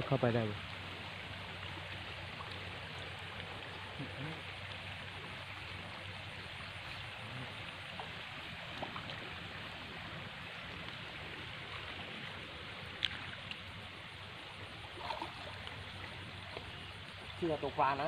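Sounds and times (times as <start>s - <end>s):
water rushing around wader: 0.0s - 18.0s.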